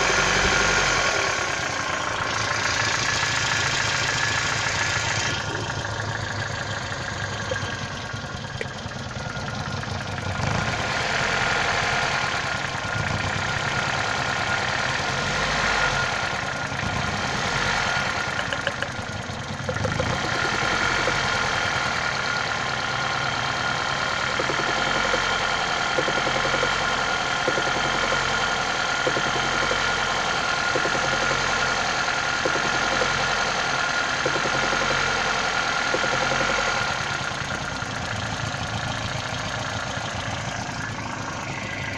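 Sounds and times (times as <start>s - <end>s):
petrol engine knocking: 0.0s - 41.9s.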